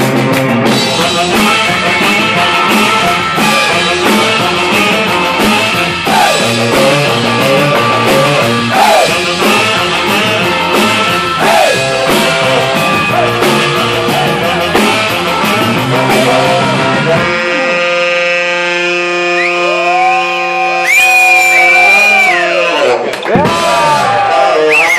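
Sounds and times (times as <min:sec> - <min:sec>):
drum kit: 0:00.0 - 0:20.2, 0:23.2 - 0:24.9
electric guitar: 0:00.0 - 0:24.5
electric bass: 0:00.0 - 0:24.9
saxophone: 0:00.1 - 0:23.0.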